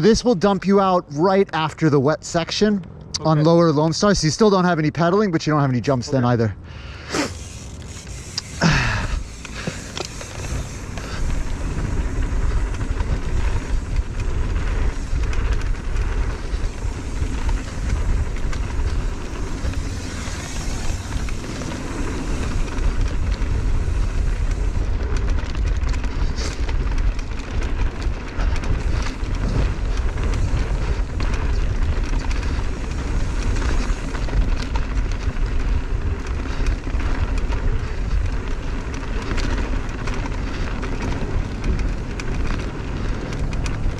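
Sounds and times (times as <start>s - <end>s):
bike clicks and rattles: 0.0s - 43.9s
tyres rolling over dirt: 3.2s - 43.9s
wind buffeting microphone: 7.3s - 43.9s.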